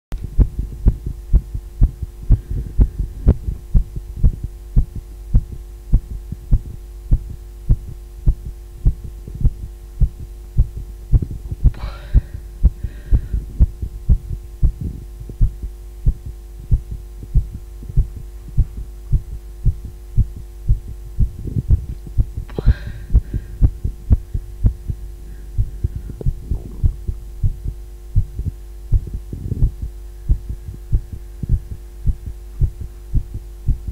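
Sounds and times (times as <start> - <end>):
constant hum: 0.2 - 33.9
heartbeat thumps: 0.2 - 33.9.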